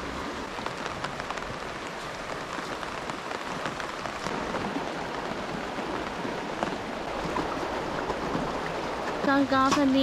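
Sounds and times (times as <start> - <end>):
rain drops pattering: 0.0 - 10.0.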